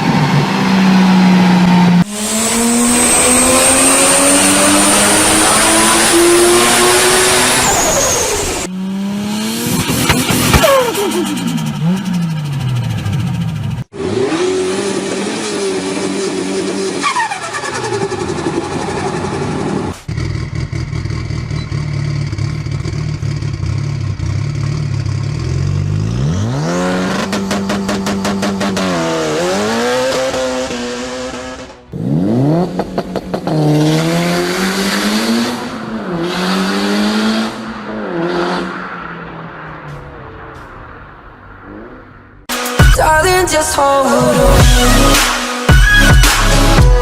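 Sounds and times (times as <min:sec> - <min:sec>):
turbocharged car engines revving: 0:00.0 - 0:42.5.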